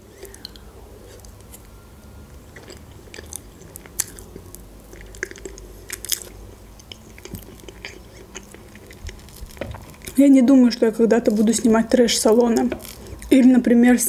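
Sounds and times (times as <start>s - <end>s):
person chewing: 0.0s - 10.2s, 11.2s - 13.4s.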